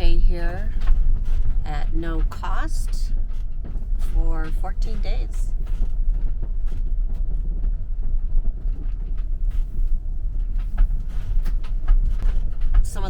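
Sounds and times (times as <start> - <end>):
van engine rumble: 0.0 - 13.0.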